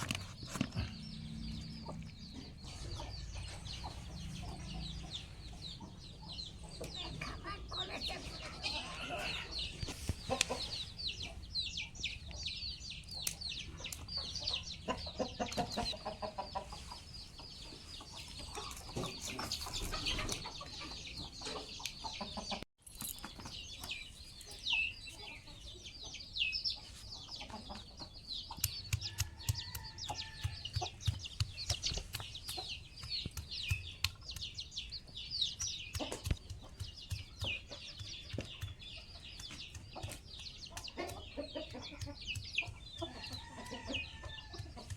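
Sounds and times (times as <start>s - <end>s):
chickens clucking: 0.0s - 22.7s, 23.4s - 44.9s.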